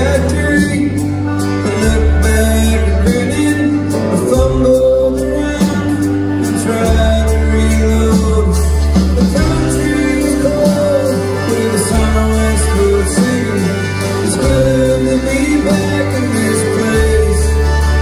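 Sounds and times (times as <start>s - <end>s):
held bass notes: 0.0s - 18.0s
live country band playing: 0.0s - 18.0s
person singing: 0.0s - 18.0s.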